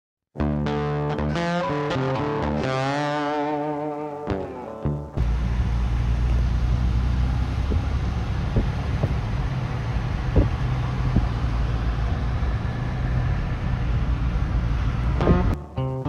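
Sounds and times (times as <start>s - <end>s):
road traffic rumble: 1.4s - 16.0s.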